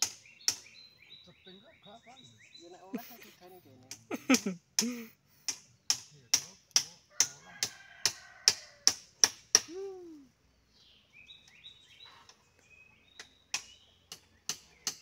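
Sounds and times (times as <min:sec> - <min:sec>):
birds chirping: 0:00.0 - 0:08.8, 0:09.8 - 0:15.0.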